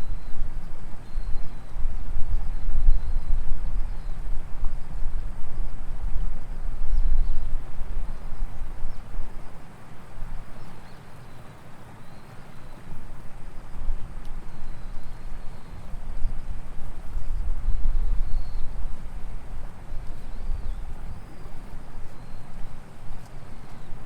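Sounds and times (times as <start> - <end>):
wind buffeting microphone: 0.0 - 11.0, 12.7 - 24.0.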